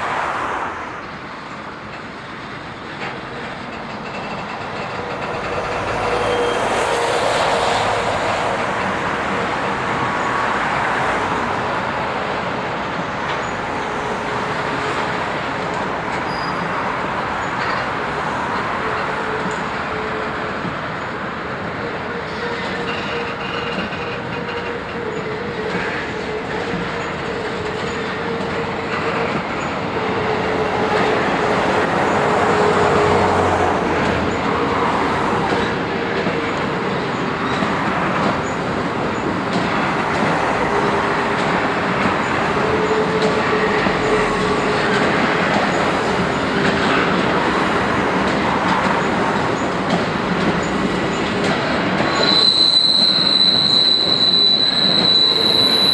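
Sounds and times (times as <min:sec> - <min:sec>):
railway wagons rumbling: 0:00.0 - 0:55.9
wheel squeal: 0:02.3 - 0:55.9.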